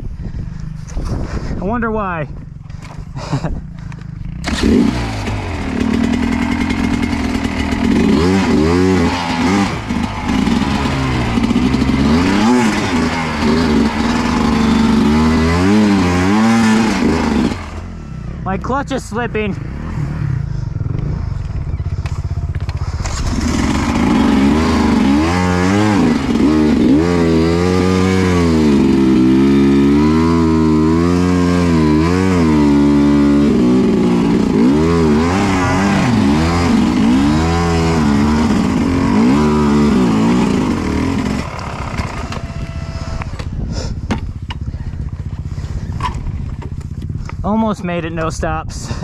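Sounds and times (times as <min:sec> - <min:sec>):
dirt bike engine revving: 0:00.6 - 0:46.9.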